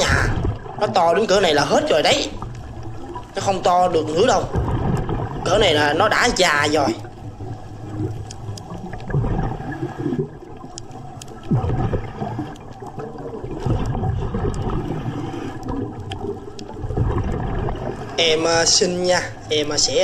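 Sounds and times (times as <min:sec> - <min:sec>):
underwater bubbling and gurgling: 0:00.0 - 0:20.0.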